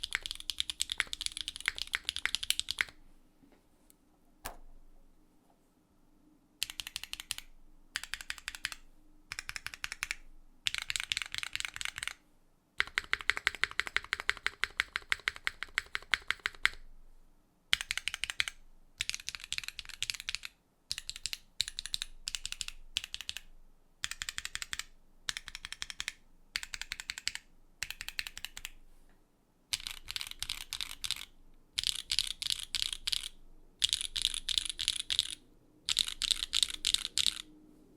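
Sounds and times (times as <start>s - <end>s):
mechanical keyboard typing: 0.0s - 3.0s, 6.6s - 12.2s, 12.8s - 16.8s, 17.7s - 28.8s, 29.7s - 37.5s.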